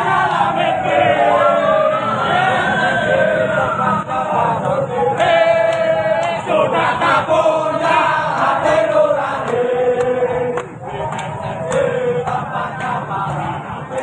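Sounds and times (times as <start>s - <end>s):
crowd chanting in unison: 0.0s - 14.0s.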